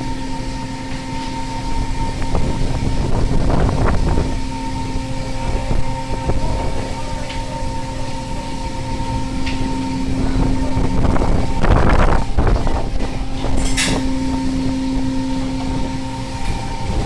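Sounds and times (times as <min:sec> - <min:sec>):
boat engine and machinery hum: 0:00.0 - 0:17.0
wind and sea noise: 0:00.0 - 0:17.0.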